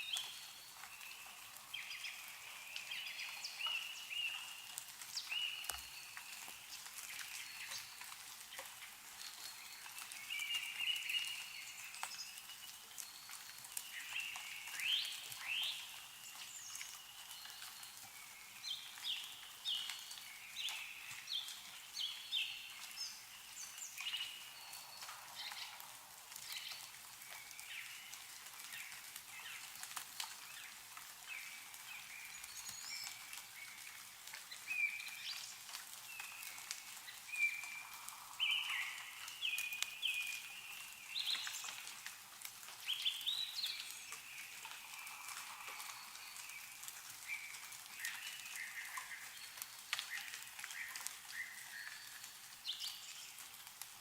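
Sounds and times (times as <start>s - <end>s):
meltwater dripping: 0.0s - 54.0s
songbirds chirping: 0.0s - 54.0s.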